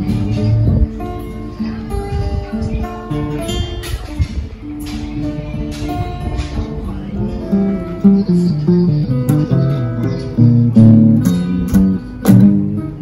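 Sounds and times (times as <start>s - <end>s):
picked guitar melody: 0.0s - 13.0s
strummed guitar chords: 0.0s - 13.0s.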